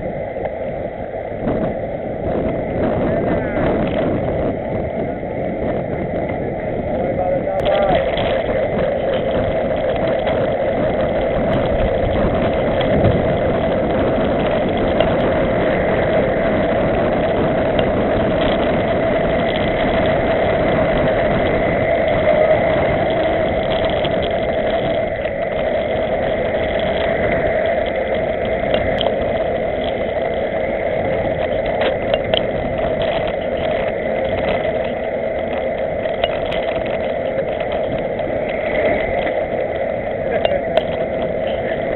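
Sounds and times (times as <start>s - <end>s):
bicycle tyre noise: 0.0s - 41.9s
rushing wind: 0.0s - 41.9s.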